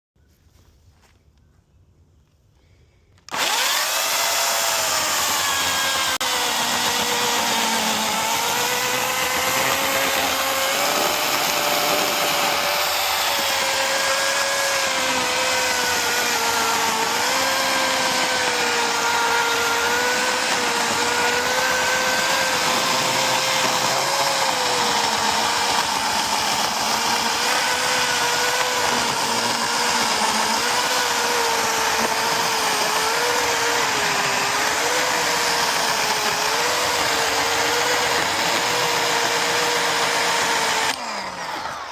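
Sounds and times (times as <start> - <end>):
chainsaw running: 3.2 - 41.9.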